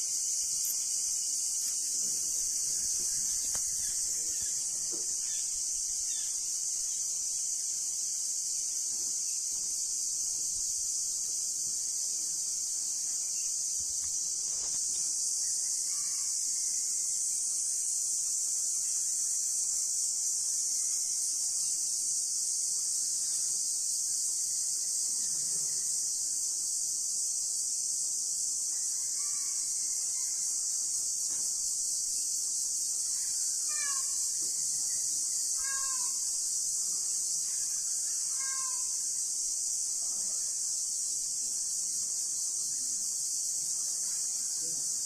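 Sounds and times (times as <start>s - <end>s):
high-pitched insect chorus: 0.0s - 45.0s.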